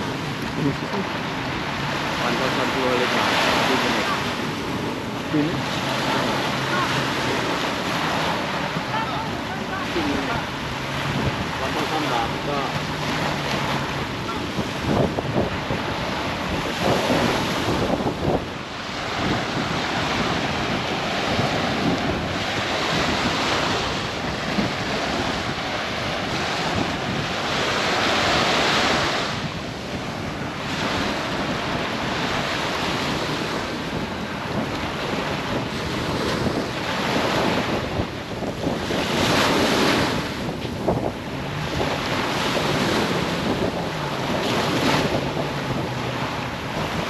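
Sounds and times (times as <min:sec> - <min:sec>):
surf washing onto beach: 0:00.0 - 0:47.0
wind buffeting microphone: 0:00.0 - 0:47.0.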